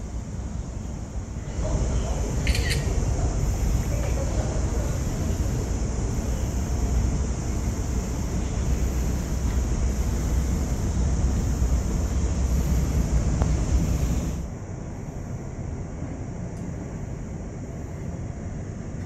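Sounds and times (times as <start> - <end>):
ambient rumble and hiss: 0.0 - 19.0.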